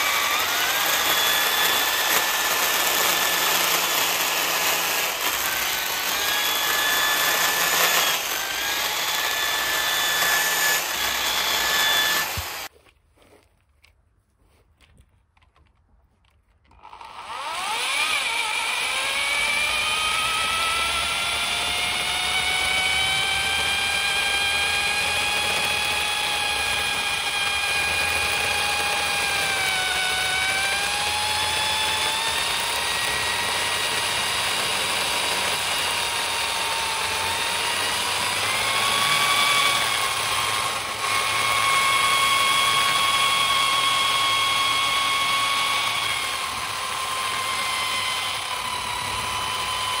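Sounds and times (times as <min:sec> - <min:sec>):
electric drill whining: 0:00.0 - 0:12.7, 0:16.7 - 0:50.0.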